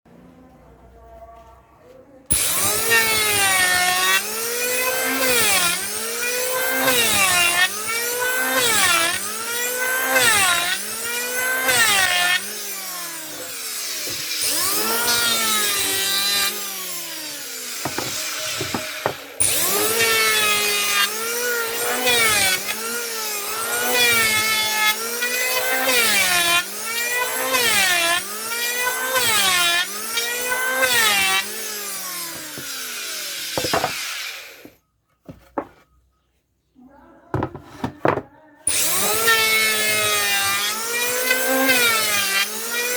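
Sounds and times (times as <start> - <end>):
power planer cutting wood: 2.3 - 34.8, 38.7 - 42.9.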